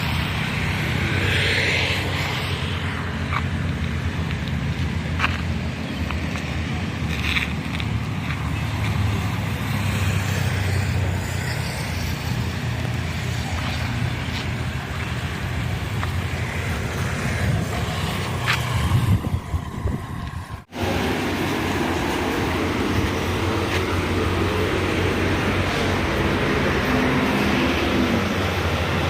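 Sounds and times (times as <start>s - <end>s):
motor vehicle rumble: 0.0s - 29.0s
road and wind noise: 0.0s - 29.0s.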